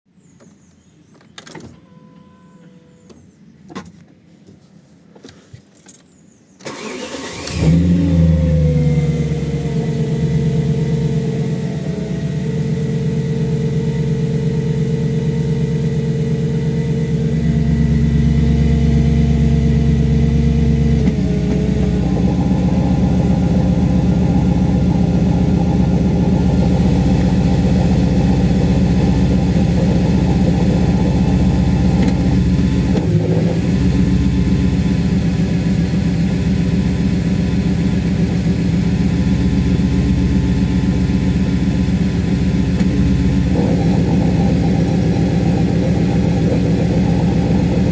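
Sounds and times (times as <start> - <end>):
car engine idling drone: 6.7 - 47.9.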